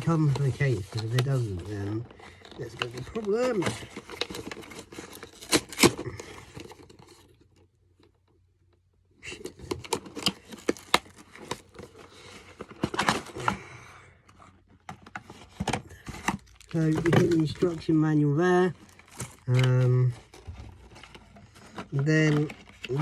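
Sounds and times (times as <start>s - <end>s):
packaging rustling and crinkling: 0.0s - 8.1s, 9.3s - 13.7s, 14.4s - 23.0s.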